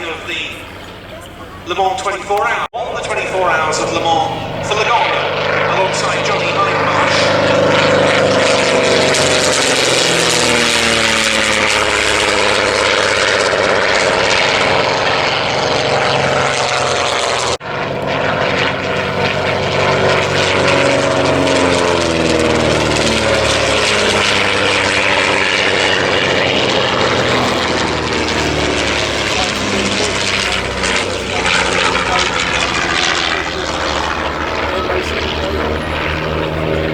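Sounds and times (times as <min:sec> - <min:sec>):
propeller aircraft flying past: 0:00.0 - 0:36.9.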